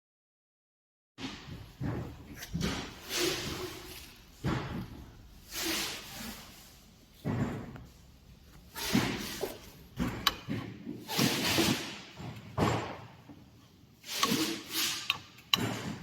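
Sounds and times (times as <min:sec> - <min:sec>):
knocks and thumps with scraping: 0:01.2 - 0:16.0.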